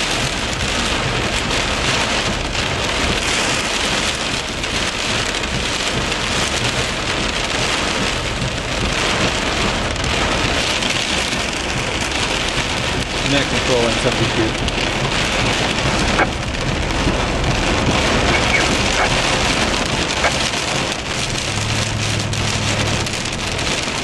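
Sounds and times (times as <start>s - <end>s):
heavy rain on vehicle roof: 0.0s - 24.0s.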